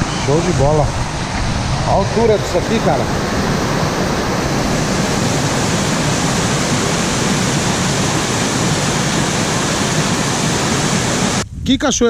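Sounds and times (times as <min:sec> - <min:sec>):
waterfall rushing over rocks: 0:00.0 - 0:11.4.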